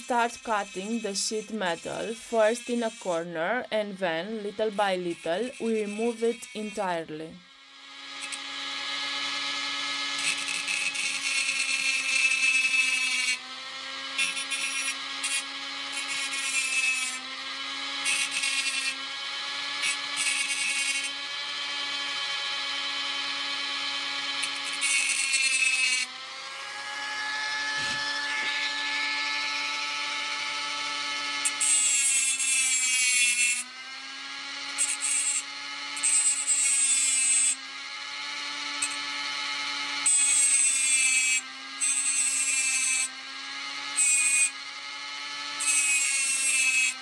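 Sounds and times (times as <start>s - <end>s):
disc grinding metal: 0.0s - 7.0s, 8.0s - 47.0s
rotary tool whine: 0.0s - 47.0s.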